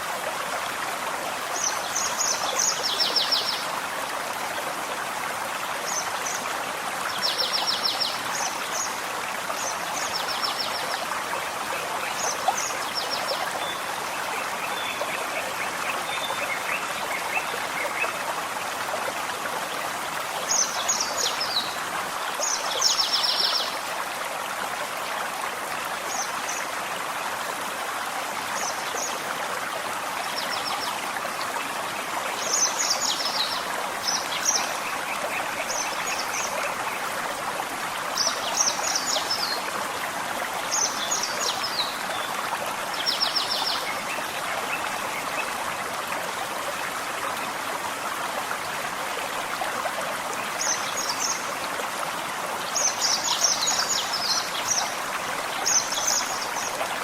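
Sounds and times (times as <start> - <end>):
forest stream running: 0.0 - 57.0.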